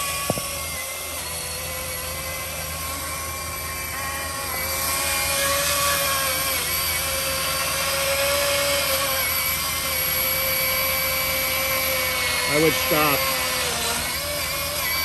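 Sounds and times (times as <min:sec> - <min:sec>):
electric chainsaw cutting wood: 0:00.0 - 0:15.0.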